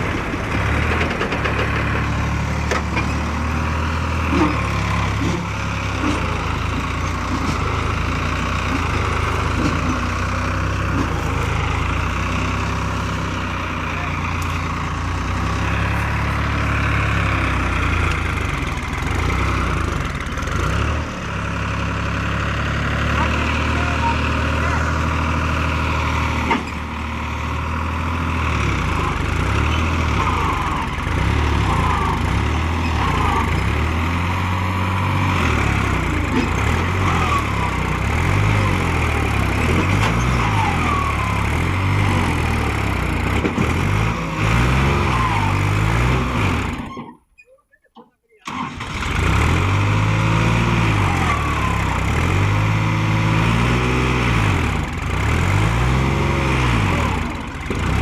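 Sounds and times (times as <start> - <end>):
tractor diesel engine straining: 0.0 - 58.0.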